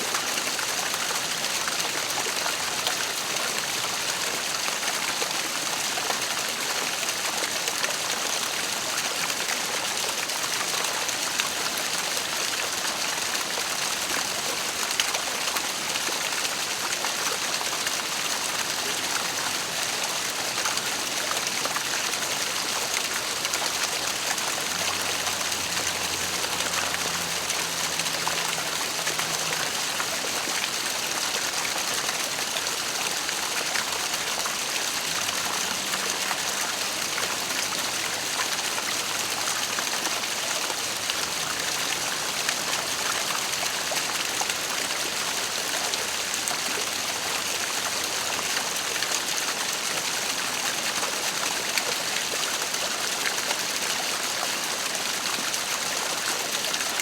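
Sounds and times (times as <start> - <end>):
waterfall rushing: 0.1 - 57.0.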